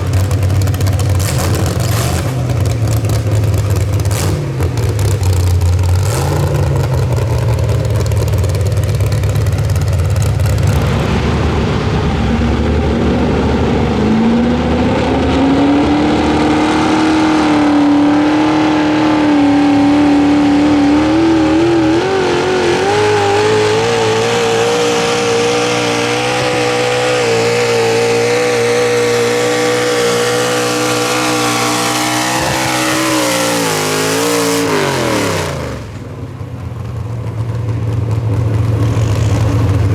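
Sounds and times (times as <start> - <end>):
truck engine at full throttle: 0.0 - 39.9.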